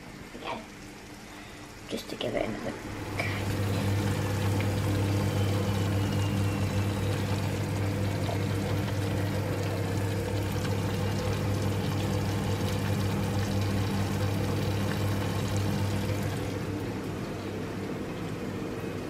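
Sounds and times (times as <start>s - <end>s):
patties sizzling in frying oil: 0.0s - 19.0s.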